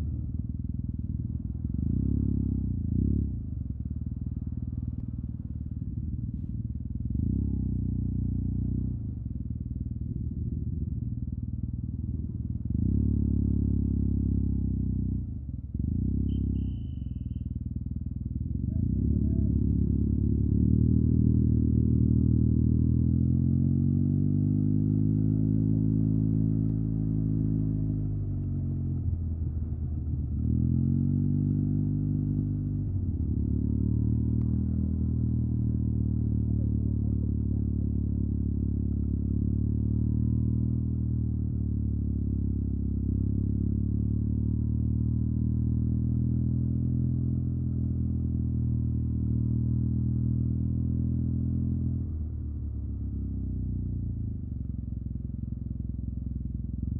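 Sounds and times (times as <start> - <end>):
scooter engine and exhaust: 0.0 - 56.9.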